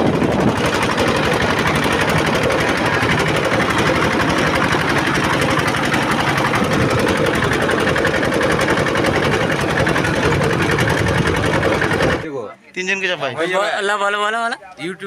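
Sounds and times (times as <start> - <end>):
engine running with clatter: 0.0 - 12.3.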